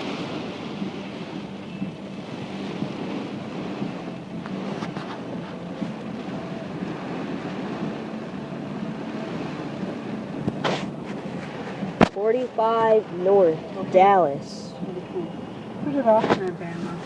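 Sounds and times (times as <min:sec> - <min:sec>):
car engine and road rumble: 0:00.0 - 0:17.0
rain hissing on a car: 0:00.0 - 0:17.0.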